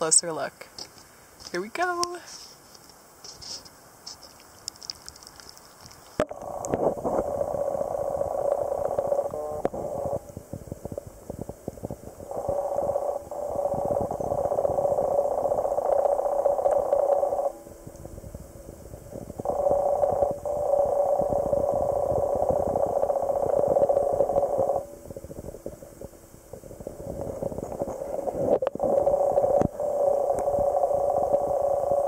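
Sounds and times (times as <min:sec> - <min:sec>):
faint crackling: 0:00.6 - 0:32.0
underwater low hum: 0:02.4 - 0:32.0.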